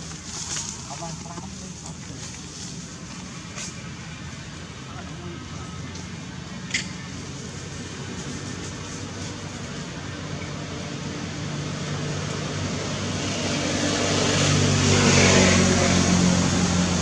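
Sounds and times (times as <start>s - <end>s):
vehicle approaching: 0.0s - 17.0s.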